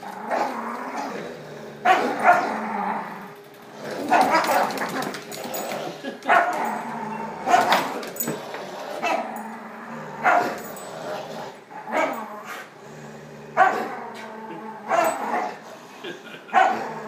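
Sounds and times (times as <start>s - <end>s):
dogs play-growling: 0.0s - 17.0s.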